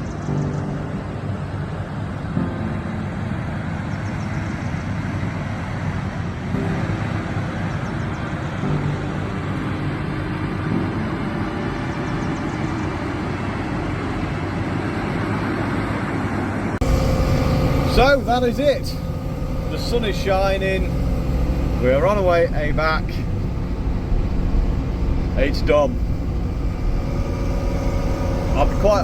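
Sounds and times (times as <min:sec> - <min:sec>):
rumble of travel noise: 0:00.0 - 0:29.0
farm vehicle engine running: 0:03.3 - 0:29.0.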